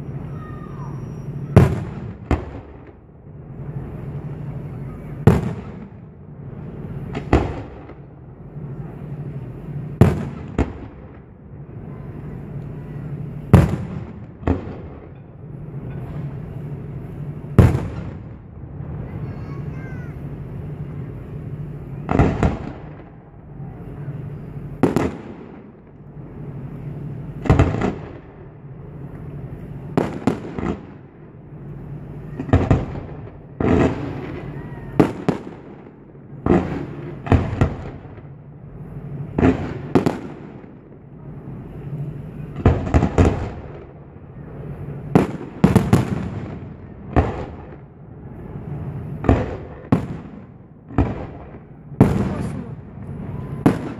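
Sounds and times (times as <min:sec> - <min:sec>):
fireworks bangs: 0:00.0 - 0:53.9
steady background rumble: 0:00.0 - 0:53.9.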